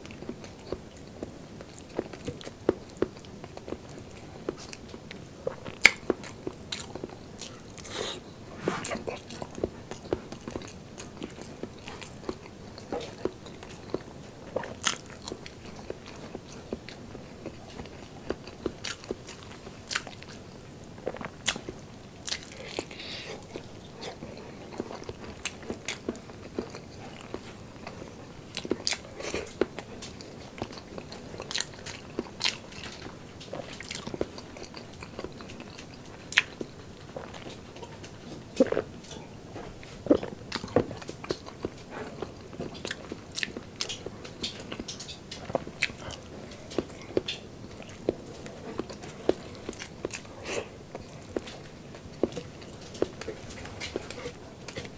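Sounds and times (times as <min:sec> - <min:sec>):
chewing with mouth clicks: 0:00.0 - 0:54.9.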